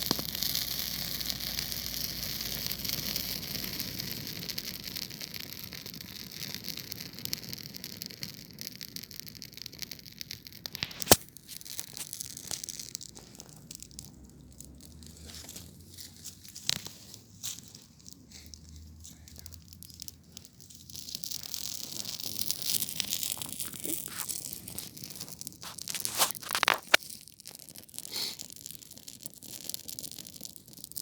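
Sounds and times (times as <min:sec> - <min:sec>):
campfire crackling and hissing: 0:00.0 - 0:31.0
loud pops from fire: 0:00.0 - 0:31.0.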